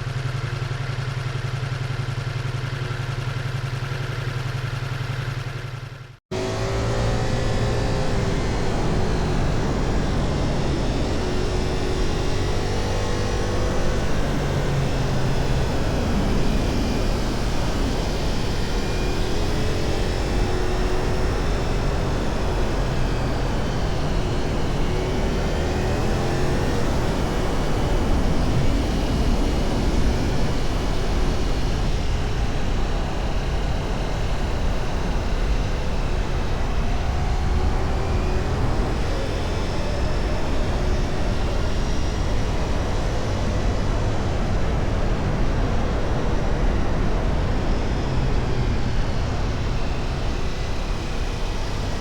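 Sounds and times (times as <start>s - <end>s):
motorcycle engine running: 0.0s - 52.0s
wind rushing on microphone: 7.2s - 52.0s.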